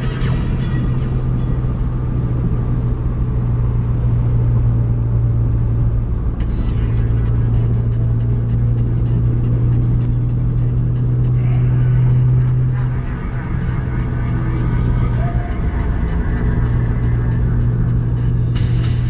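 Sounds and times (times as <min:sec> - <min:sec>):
low engine drone: 0:00.0 - 0:19.0
road noise: 0:00.0 - 0:19.0.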